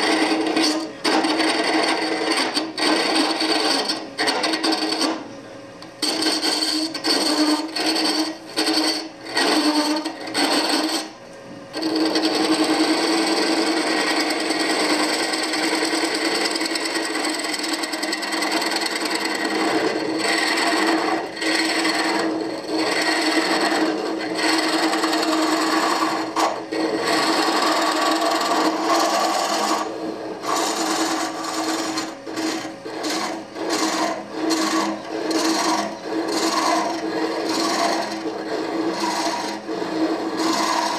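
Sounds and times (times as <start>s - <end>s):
lathe low hum: 0.0s - 40.9s
lathe tool scraping wood: 0.0s - 40.9s.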